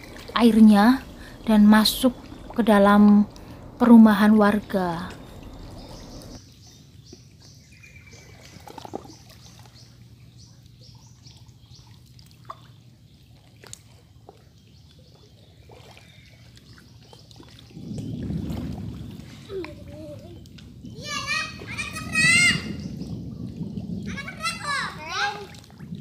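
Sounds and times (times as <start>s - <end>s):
floodwater trickling and lapping: 0.0s - 26.0s.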